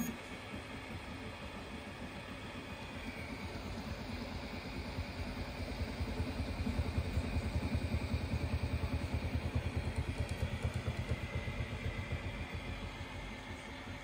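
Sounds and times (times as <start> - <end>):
cooling fans whirring: 0.0 - 14.0
stepper motors humming: 0.0 - 14.0.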